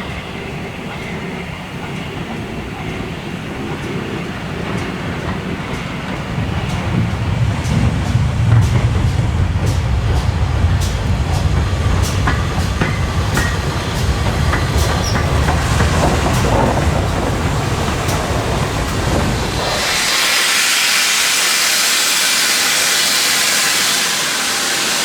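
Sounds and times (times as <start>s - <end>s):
train rumbling on track: 0.0s - 25.0s
wheels clicking over rail joints: 1.8s - 25.0s.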